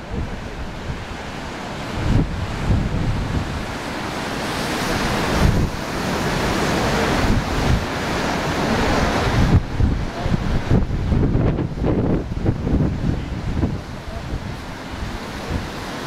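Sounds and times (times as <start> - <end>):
surf washing onto beach: 0.0 - 16.0
wind gusting on microphone: 0.0 - 16.0.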